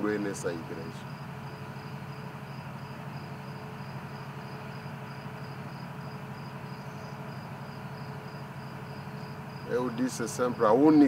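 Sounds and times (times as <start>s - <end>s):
cricket chirping: 0.0s - 11.0s
low steady hum: 0.0s - 11.0s.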